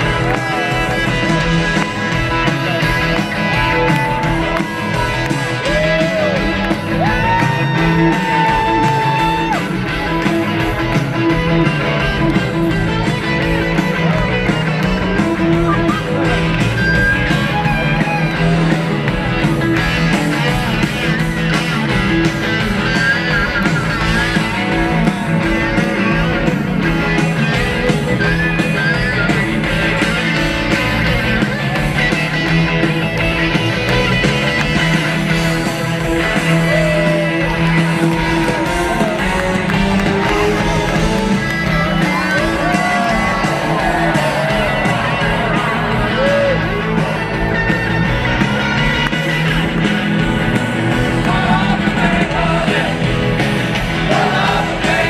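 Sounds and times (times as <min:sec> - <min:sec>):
electric guitar lead line: 0:00.0 - 0:55.0
live rock band playing: 0:00.0 - 0:55.0.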